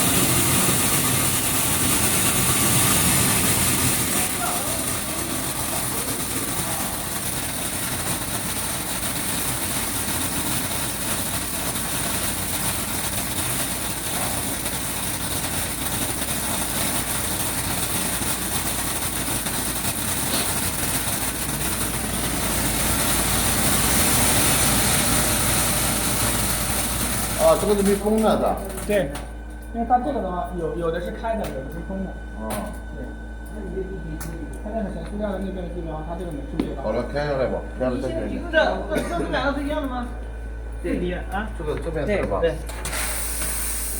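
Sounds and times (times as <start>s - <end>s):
seed-sorting machine whirring: 0.0s - 43.9s.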